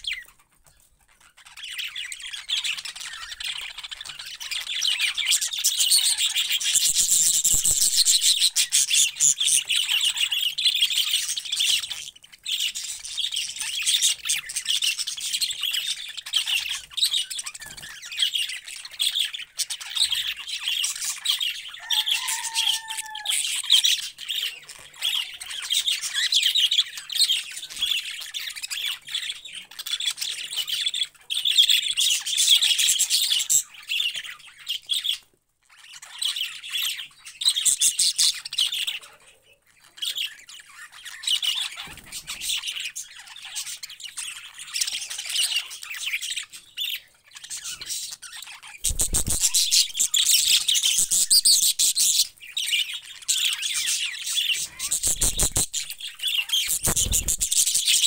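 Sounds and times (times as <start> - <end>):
budgerigars chattering: 1.0 - 58.0.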